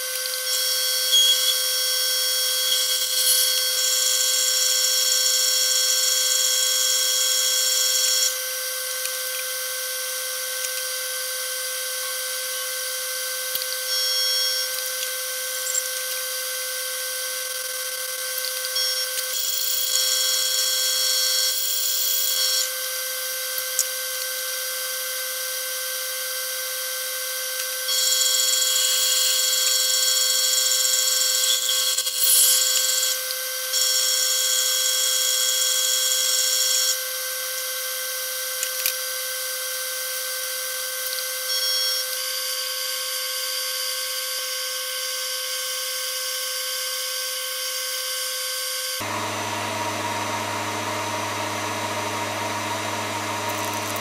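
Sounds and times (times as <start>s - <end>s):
lathe motor whine: 0.0s - 54.0s.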